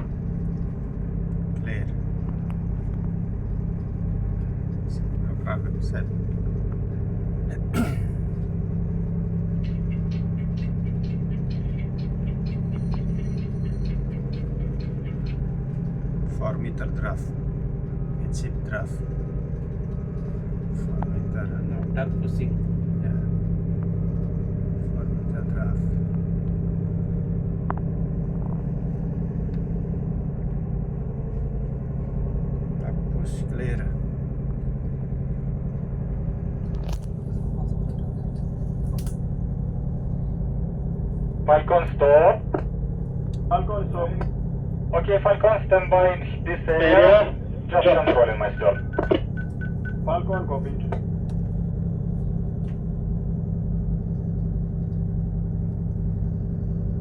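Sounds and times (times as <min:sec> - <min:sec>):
marine diesel engine droning: 0:00.0 - 0:57.0.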